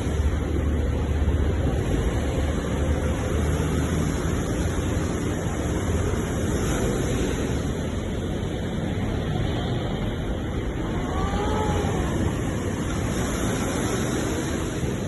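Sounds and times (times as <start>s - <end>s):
sea waves crashing: 0.0s - 15.0s.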